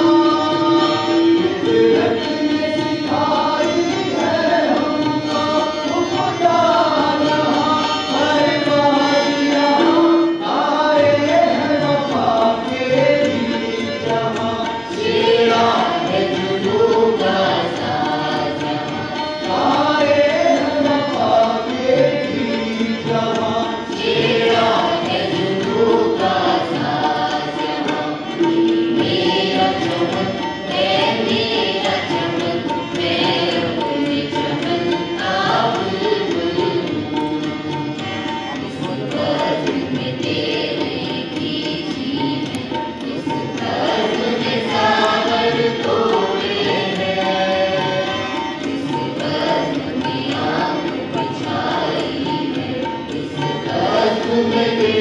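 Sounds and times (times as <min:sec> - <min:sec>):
drum accompaniment: 0:00.0 - 0:55.0.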